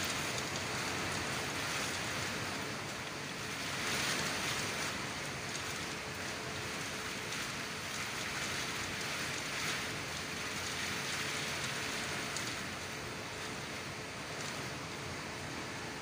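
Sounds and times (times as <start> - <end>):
wind and rain through window: 0.0 - 16.0.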